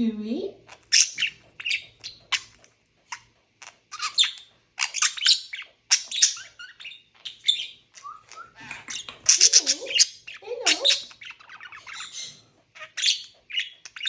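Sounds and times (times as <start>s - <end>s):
budgerigars chirping and warbling: 0.7s - 14.0s.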